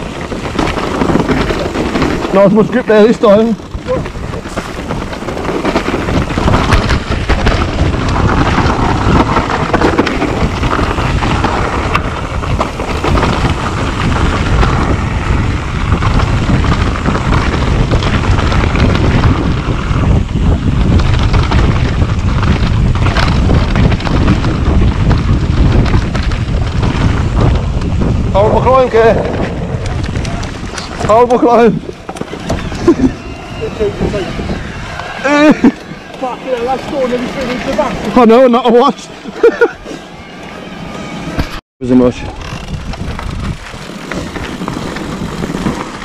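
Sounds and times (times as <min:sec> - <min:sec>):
bike knocks and rattles: 0:00.0 - 0:33.1, 0:42.2 - 0:46.0
tyres rolling over dirt: 0:00.0 - 0:46.0
wind buffeting microphone: 0:00.0 - 0:46.0.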